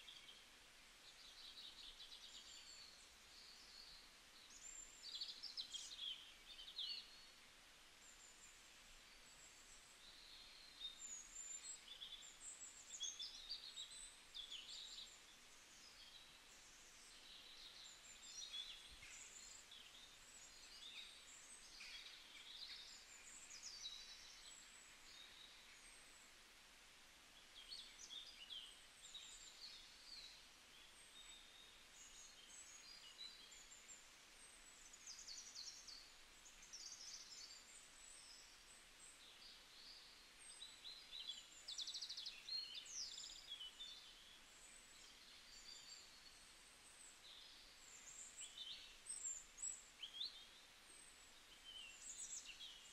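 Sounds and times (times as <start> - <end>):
faint birdsong chirps and trills: 0.0 - 52.9.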